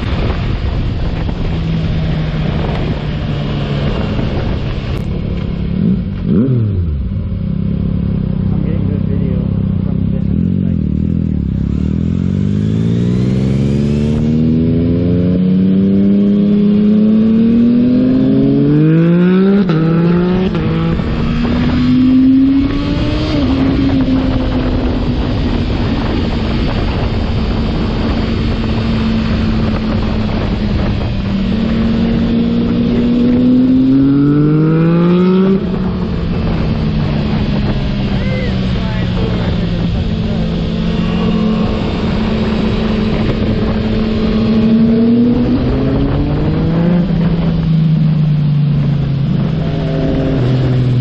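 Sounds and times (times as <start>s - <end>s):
motorcycle engine revving: 0.0s - 51.0s
wind rushing over microphone: 0.0s - 51.0s.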